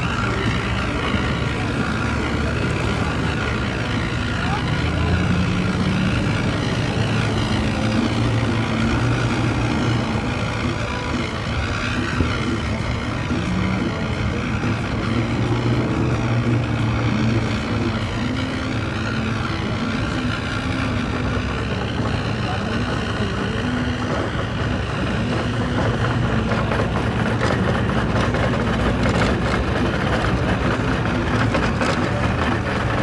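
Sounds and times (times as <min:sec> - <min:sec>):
motorboat engines running: 0:00.0 - 0:33.0.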